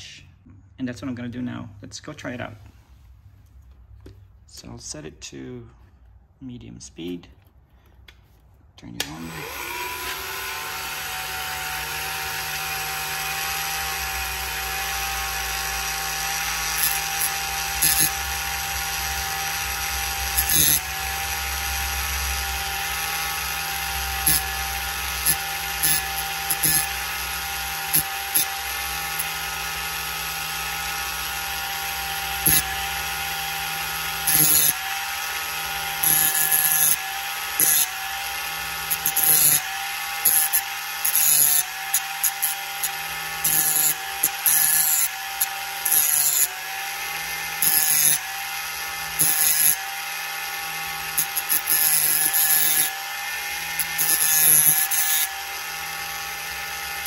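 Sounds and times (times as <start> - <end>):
rotary tool motor whine: 9.3 - 57.0
sanding disc grinding: 9.4 - 57.0.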